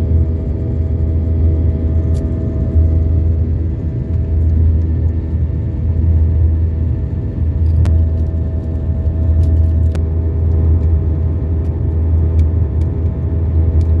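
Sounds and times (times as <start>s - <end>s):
loud low rumbling drone: 0.0s - 14.0s.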